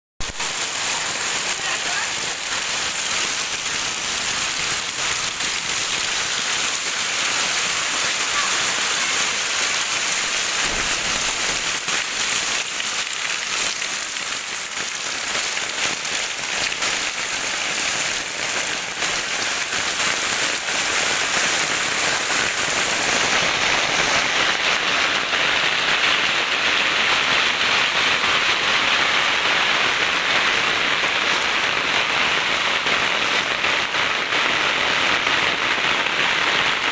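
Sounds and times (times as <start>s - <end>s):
heavy rain falling: 0.2s - 36.9s.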